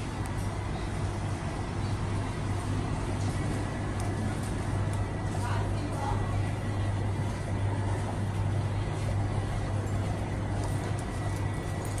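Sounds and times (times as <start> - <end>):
pump hum: 0.0 - 12.0.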